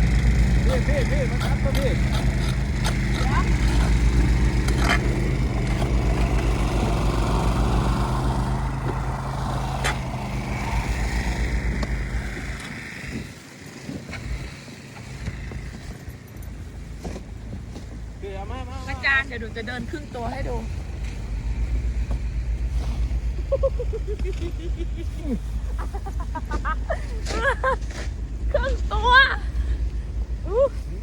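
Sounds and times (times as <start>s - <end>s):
engine throbbing: 0.0s - 31.0s.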